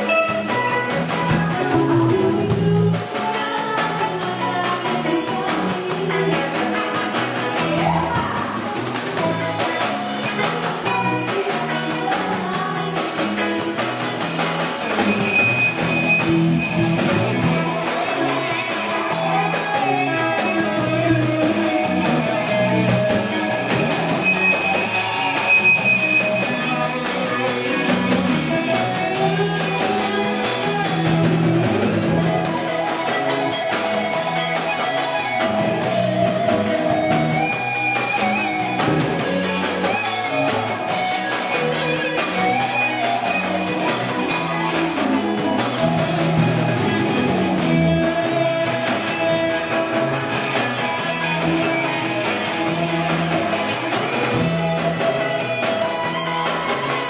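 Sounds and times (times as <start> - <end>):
drum kit beat: 0.0 - 57.0
electric bass: 0.0 - 57.0
electric guitars: 0.0 - 57.0.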